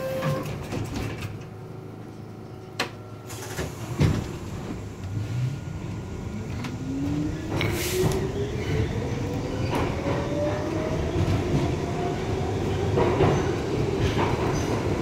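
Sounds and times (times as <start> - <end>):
subway car low rumble: 0.0 - 15.0.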